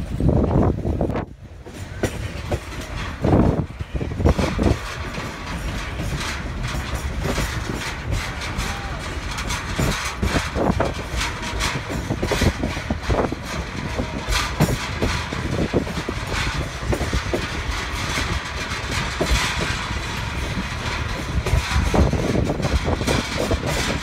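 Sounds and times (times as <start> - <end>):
train wheels rumbling on rail: 0.0 - 24.0
knocks and clanks: 0.5 - 24.0.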